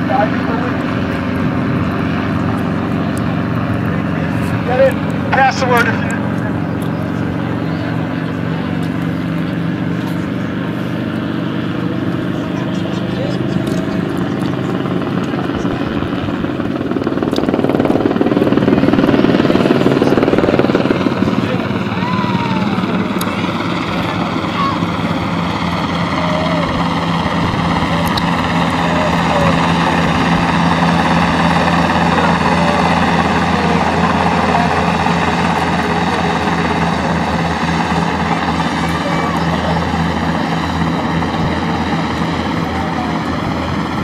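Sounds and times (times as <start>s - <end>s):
helicopter rotor chop: 0.0s - 44.0s.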